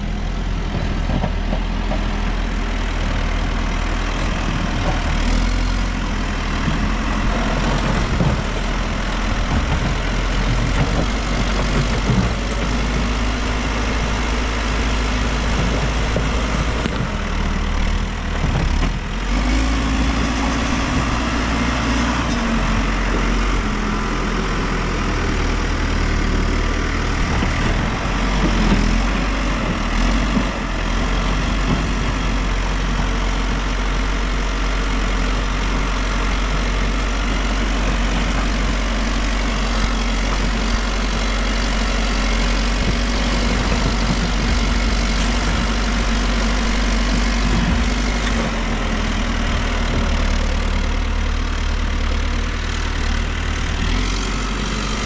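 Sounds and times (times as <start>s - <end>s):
backhoe diesel engine running: 0.0s - 55.0s.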